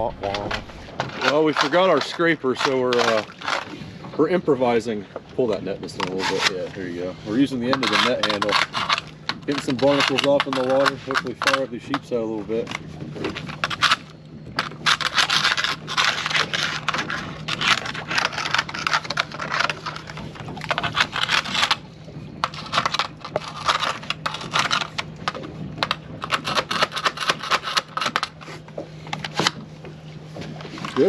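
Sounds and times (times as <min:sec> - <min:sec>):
gritty scraping of barnacles: 0:00.0 - 0:31.0.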